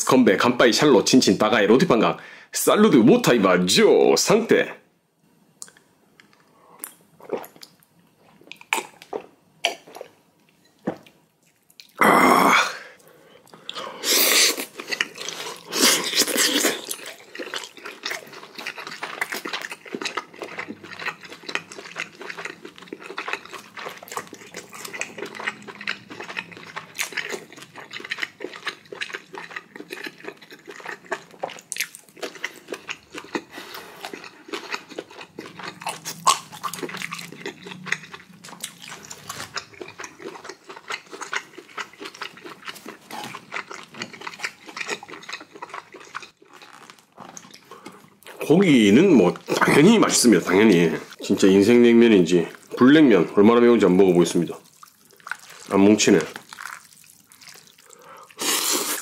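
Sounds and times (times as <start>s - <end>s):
person chewing loudly: 11.4s - 59.0s.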